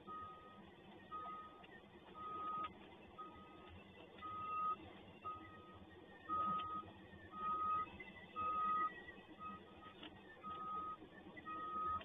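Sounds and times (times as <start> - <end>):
low background noise: 0.0 - 12.0
reversing alarm beeping: 0.0 - 12.0.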